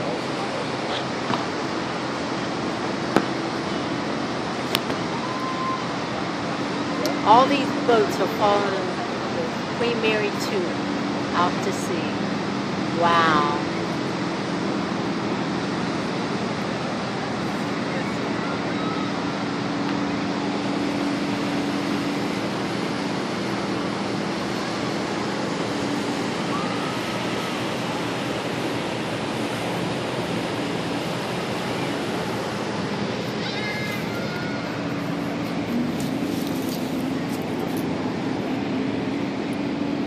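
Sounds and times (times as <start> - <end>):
wind and water rushing: 0.0 - 40.0
low steady hum: 1.5 - 40.0.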